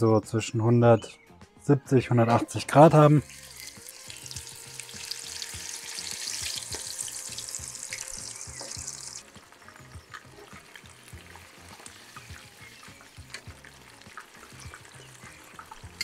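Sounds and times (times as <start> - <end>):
chicken sizzling in hot oil: 2.8 - 16.0.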